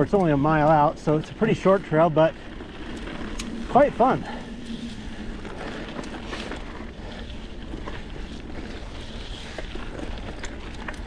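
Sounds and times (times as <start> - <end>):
bike clicks and rattles: 0.0 - 11.0
bike rolling over dirt: 0.0 - 11.0.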